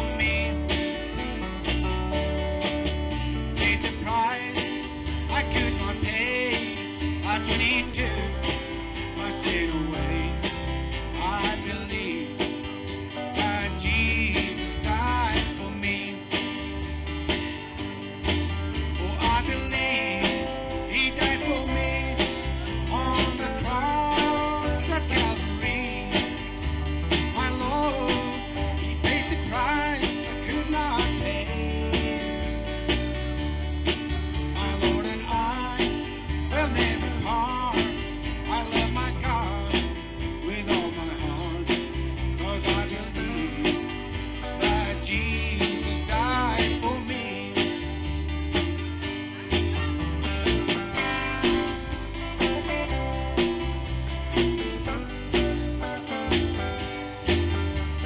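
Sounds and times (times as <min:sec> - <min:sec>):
bass: 0:00.0 - 0:58.0
lead guitar bending notes: 0:00.0 - 0:58.0
live country band music: 0:00.0 - 0:58.0
sliding melody line: 0:00.0 - 0:58.0
steady drum beat: 0:00.0 - 0:58.0
strummed guitar: 0:00.0 - 0:58.0.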